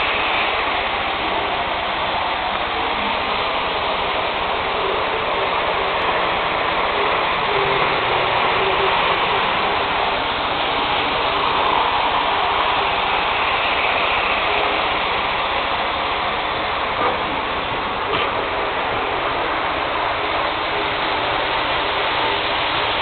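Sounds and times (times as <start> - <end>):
model train running on rails: 0.0 - 23.0.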